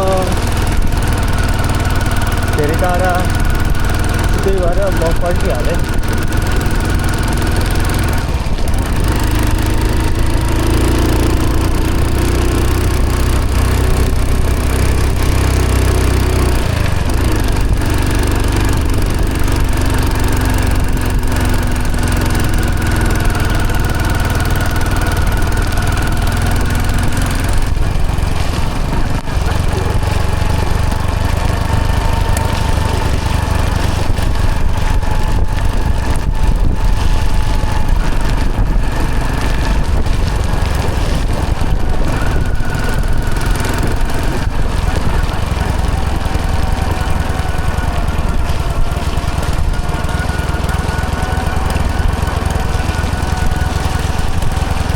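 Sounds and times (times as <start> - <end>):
motorcycle engine running: 0.0 - 54.9
road noise: 0.0 - 54.9.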